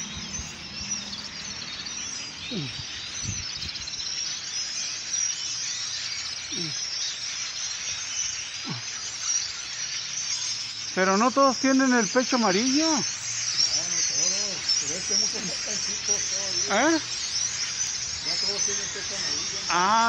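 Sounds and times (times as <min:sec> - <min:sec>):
flock of birds chattering: 0:00.0 - 0:20.0.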